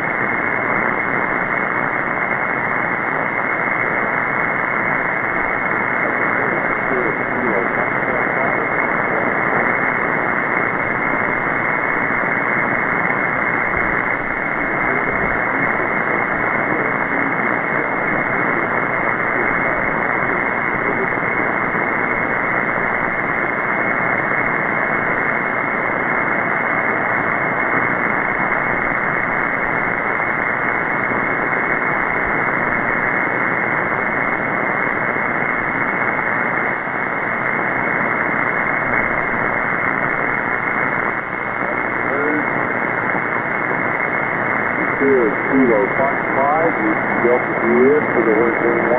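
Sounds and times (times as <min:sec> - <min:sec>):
shortwave radio hiss: 0:00.0 - 0:48.9.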